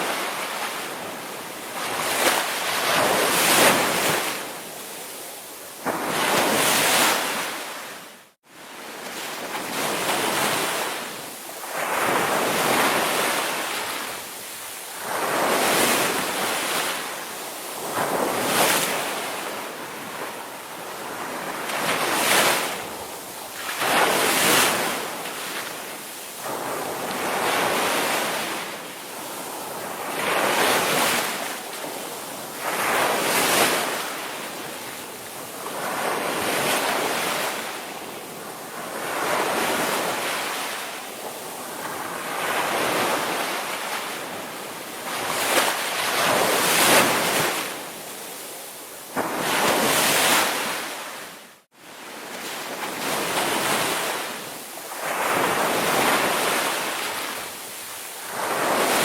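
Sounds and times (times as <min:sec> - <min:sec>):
ocean waves breaking: 0:00.0 - 0:48.5, 0:49.1 - 0:59.0.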